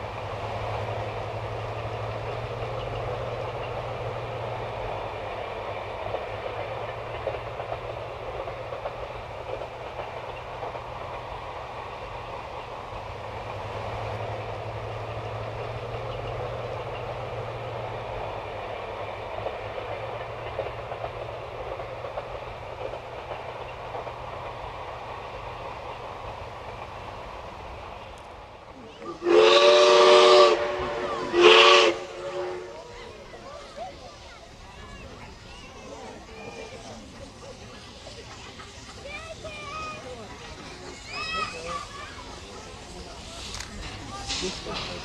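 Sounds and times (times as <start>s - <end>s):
train running on rails: 0.0s - 45.0s.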